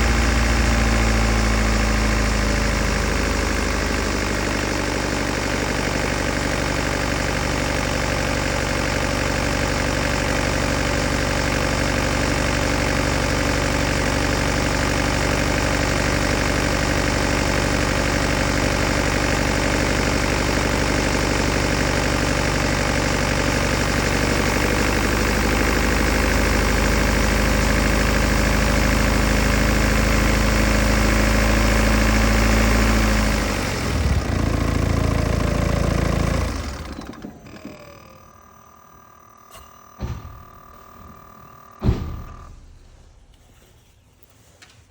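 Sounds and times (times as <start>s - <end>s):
diesel engine idling: 0.0s - 39.4s.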